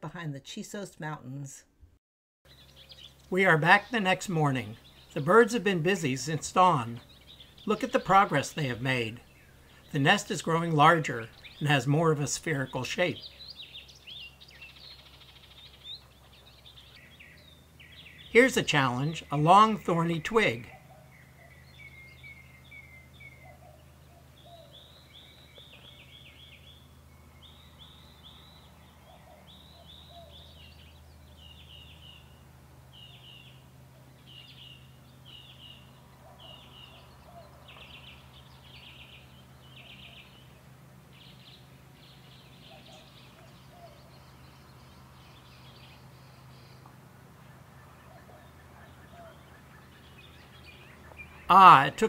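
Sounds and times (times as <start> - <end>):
birds chip notes: 2.5 - 52.0.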